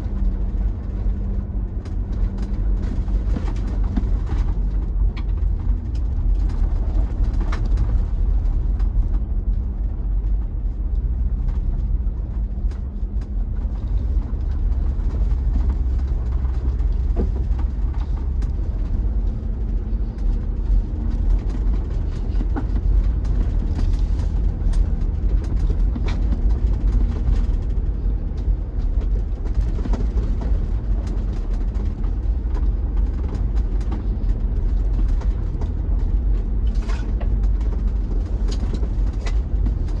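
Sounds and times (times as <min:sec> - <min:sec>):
engine and tyres rumbling: 0:00.0 - 0:40.0.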